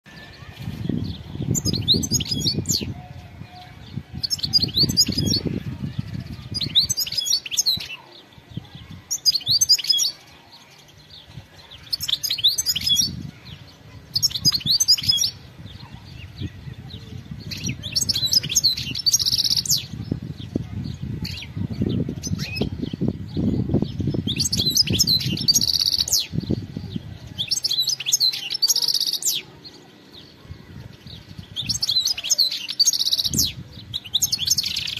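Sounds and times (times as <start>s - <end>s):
bird twittering song: 0.1s - 34.9s.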